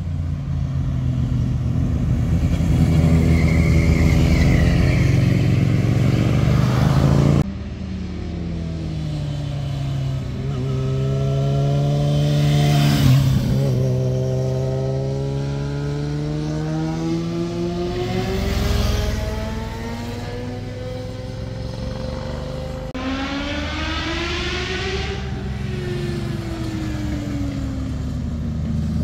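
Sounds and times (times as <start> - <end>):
motorcycle engines passing: 0.0 - 29.0
motorcycle engine accelerating: 0.6 - 29.0.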